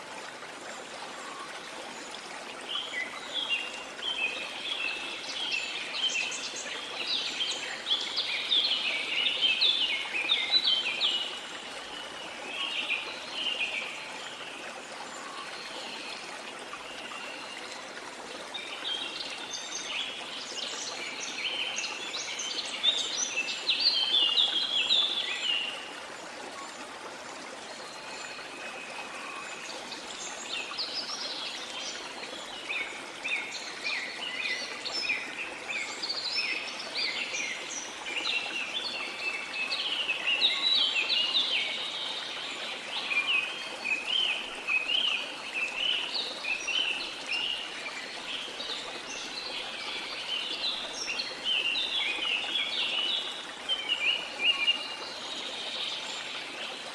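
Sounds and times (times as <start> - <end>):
flowing water: 0.0 - 56.9.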